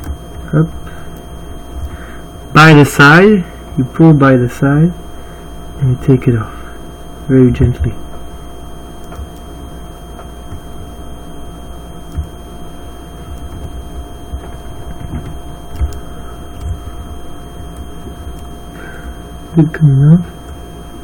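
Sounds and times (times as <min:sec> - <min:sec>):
faint steady whine: 0:00.0 - 0:21.0.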